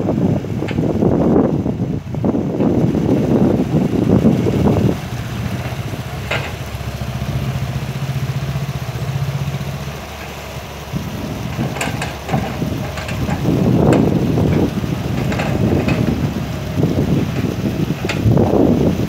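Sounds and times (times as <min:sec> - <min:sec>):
excavator diesel engine idling: 0:00.0 - 0:19.0.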